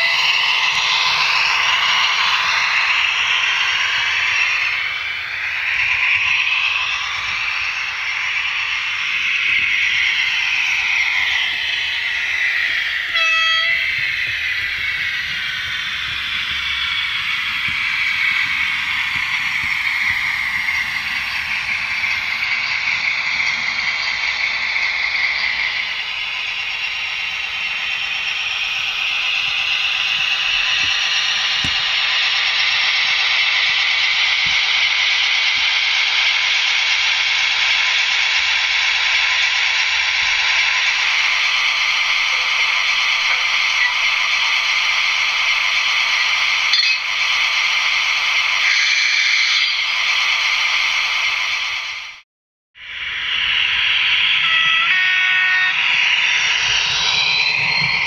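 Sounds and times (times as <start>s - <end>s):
diesel engine sound from small speaker: 0.0s - 52.2s.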